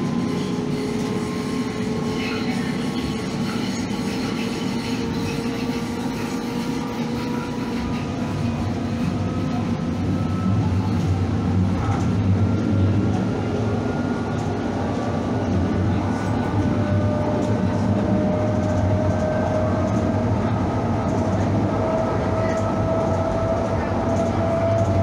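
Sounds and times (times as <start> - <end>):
light-rail car rumble: 0.0 - 25.0.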